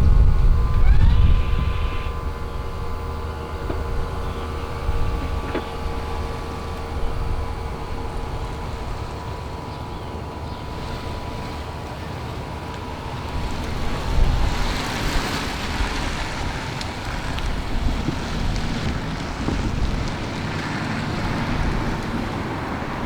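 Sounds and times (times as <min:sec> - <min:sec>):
car wash equipment hum: 0:00.0 - 0:23.0.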